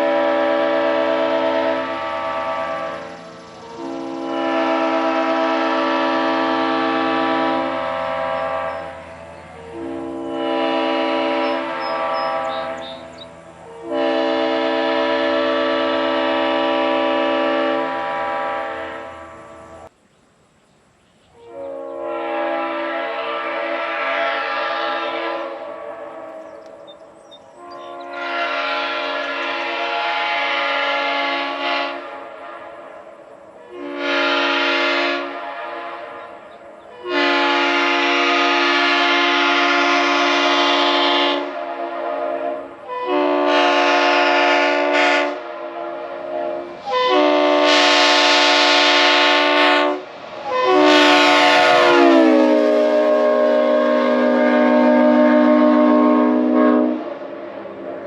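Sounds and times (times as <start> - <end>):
multi-tone air horn blasts: 0.0 - 19.6, 21.4 - 26.8, 27.6 - 57.4.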